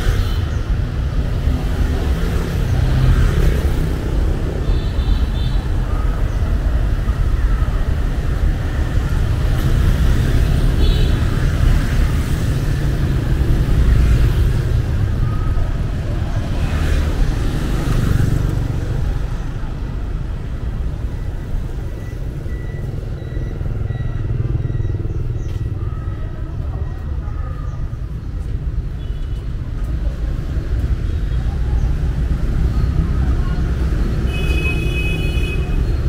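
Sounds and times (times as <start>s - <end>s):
low traffic rumble: 0.0s - 36.0s
motorbikes and cars passing: 0.0s - 36.0s.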